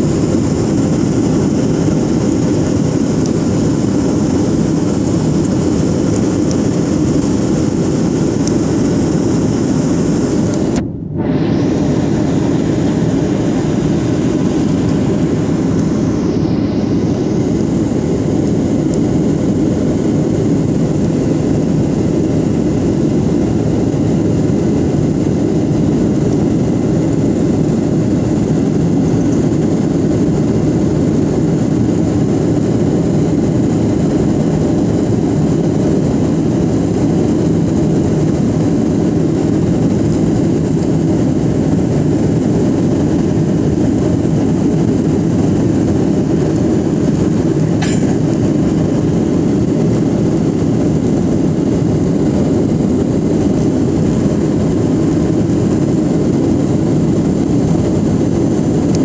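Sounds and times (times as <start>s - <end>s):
airliner engines droning in cabin: 0.0s - 59.0s.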